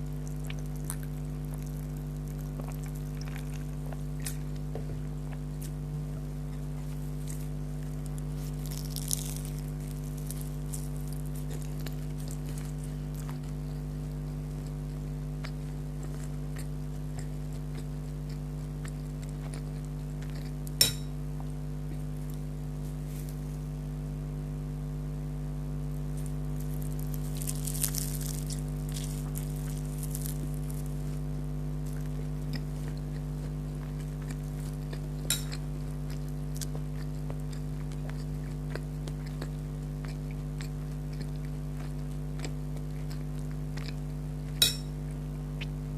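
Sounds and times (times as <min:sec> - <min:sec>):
chewing crunches: 0:00.0 - 0:23.5, 0:25.9 - 0:45.9
low electrical hum: 0:00.0 - 0:45.9.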